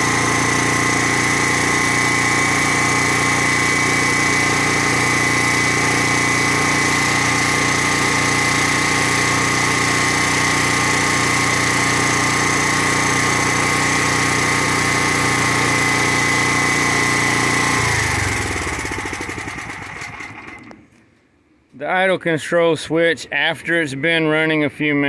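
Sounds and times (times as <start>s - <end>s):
portable generator running: 0.0s - 21.0s.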